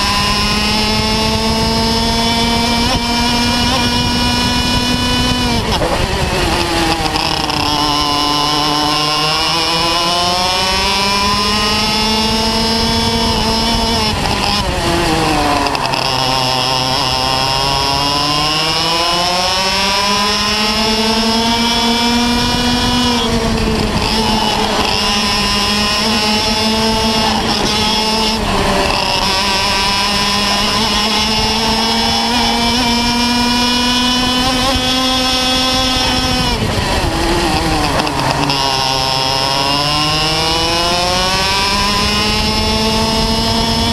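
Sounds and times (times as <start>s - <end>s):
kart engine racing: 0.0s - 43.9s.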